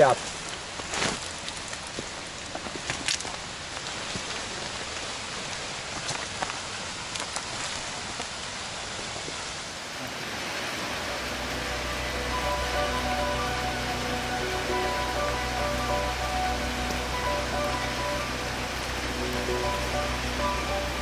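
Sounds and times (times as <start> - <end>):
sharp ticks of raindrops: 0.0 - 9.8, 10.9 - 21.0
steady rain hiss: 0.0 - 21.0.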